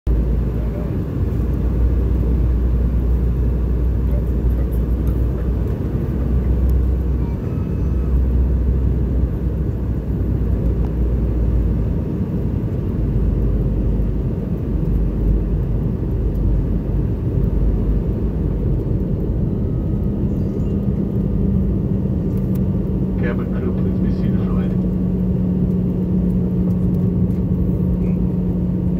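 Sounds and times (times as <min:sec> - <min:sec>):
airliner cabin rumble: 0:00.1 - 0:28.9.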